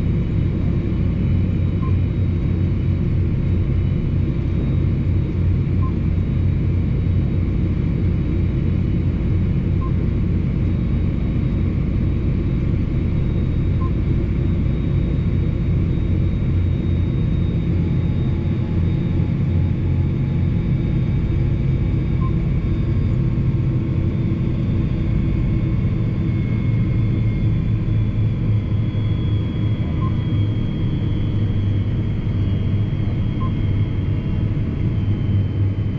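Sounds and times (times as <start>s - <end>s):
high transmission whine: 0.0s - 35.9s
tractor diesel engine drone: 0.0s - 35.9s.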